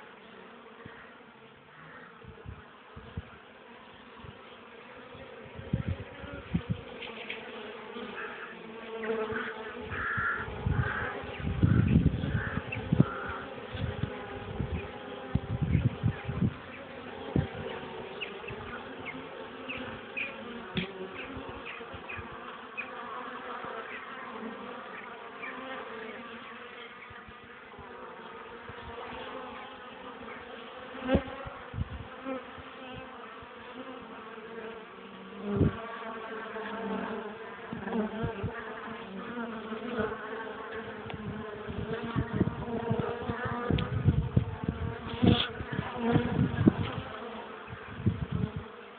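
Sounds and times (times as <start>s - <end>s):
bees buzzing: 0.0s - 48.9s.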